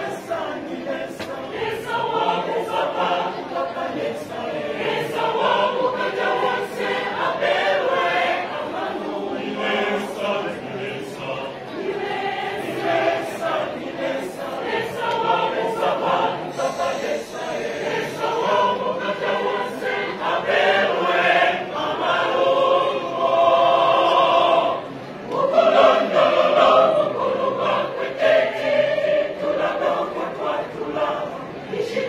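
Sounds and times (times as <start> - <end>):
choir singing gospel music: 0.0 - 32.0.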